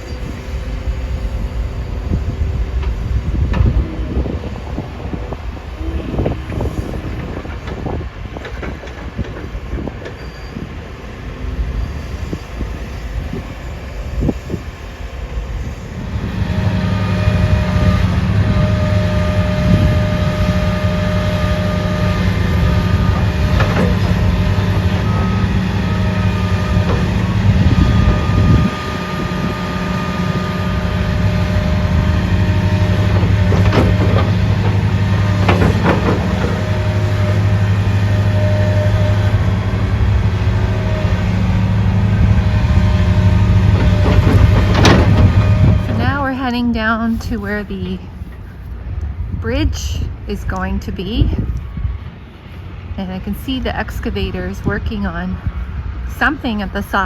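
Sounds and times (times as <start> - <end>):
train engine hum: 0.0 - 57.0
train rumbling past: 0.0 - 57.0.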